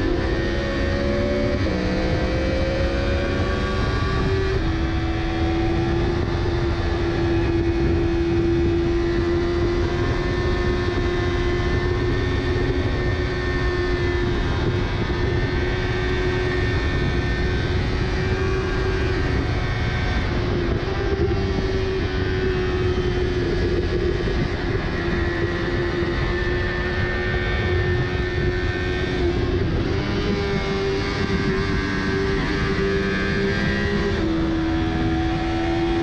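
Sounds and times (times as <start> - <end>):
motorcycle engine at high revs: 0.0 - 36.0
wind rush on microphone: 0.0 - 36.0.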